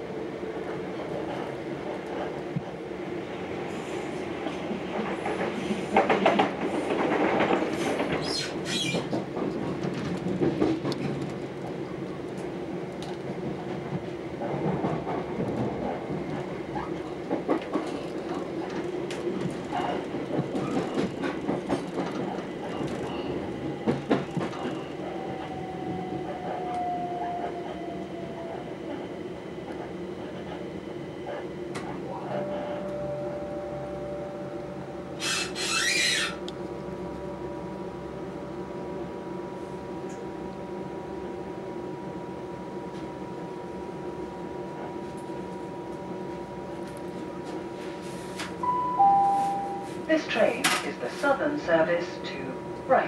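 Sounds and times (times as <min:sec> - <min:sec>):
passing train rattling: 0:00.0 - 0:41.3, 0:42.9 - 0:53.0.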